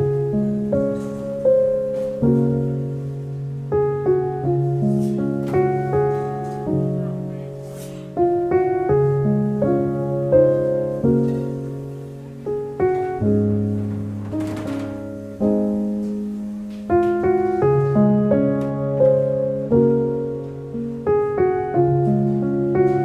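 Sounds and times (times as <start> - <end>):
slow gentle solo piano: 0.0 - 23.0.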